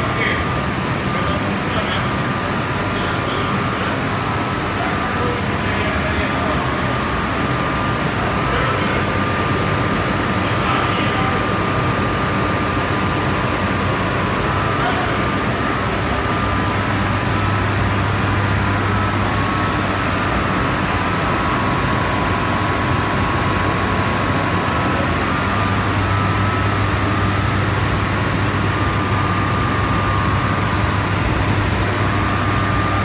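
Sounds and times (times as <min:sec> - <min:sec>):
high steady whining tones: 0:00.0 - 0:33.0.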